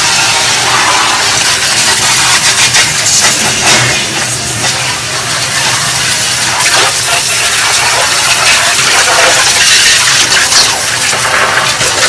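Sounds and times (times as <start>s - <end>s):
hose water splashing into tub: 0.0s - 12.0s.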